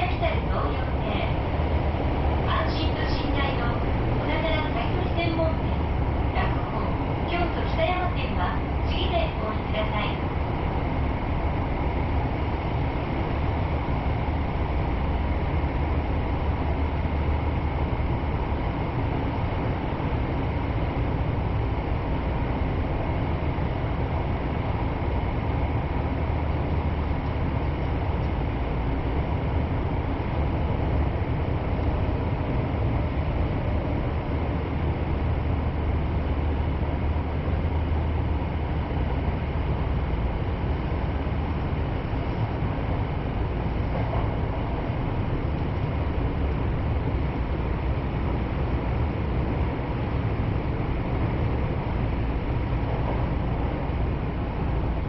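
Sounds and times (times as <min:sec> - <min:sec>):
faint steady whine: 0:00.0 - 0:55.0
train wheels rumbling on rail: 0:00.0 - 0:55.0.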